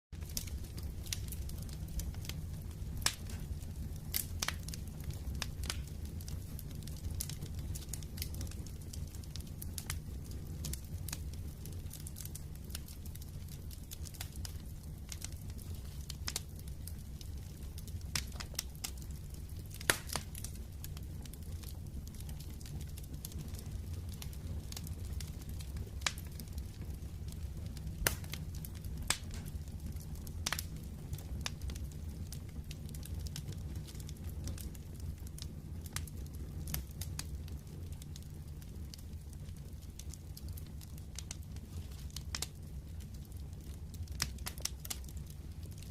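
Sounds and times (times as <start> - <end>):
low rumble of flames: 0.2 - 45.9
wood fire crackling and popping: 0.2 - 45.9.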